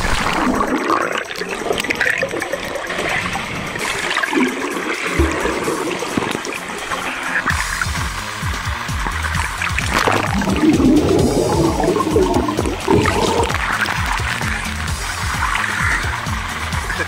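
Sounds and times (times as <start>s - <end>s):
water sloshing and bubbling: 0.0s - 17.0s.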